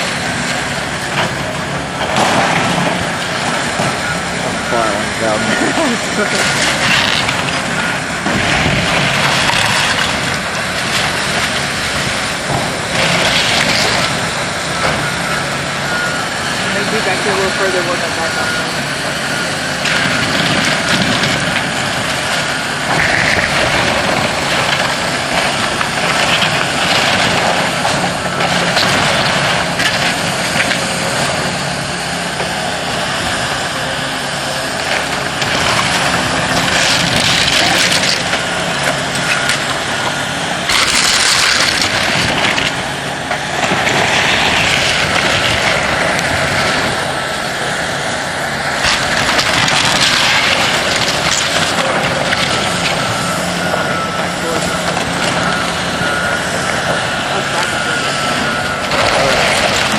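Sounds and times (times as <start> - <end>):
crunching clattering debris: 0.0 - 18.7, 19.8 - 33.9, 34.8 - 59.9
diesel engine running: 0.0 - 59.9.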